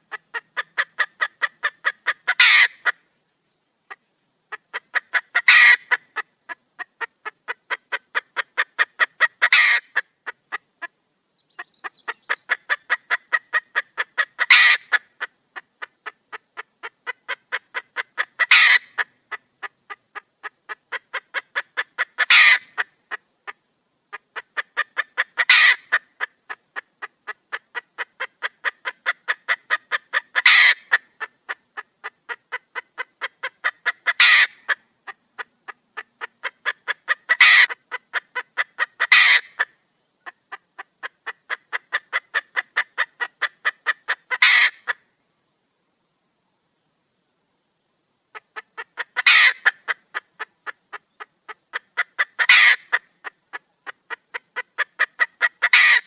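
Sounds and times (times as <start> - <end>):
hen clucking and calling: 0.0 - 3.2, 3.8 - 45.2, 48.3 - 56.0.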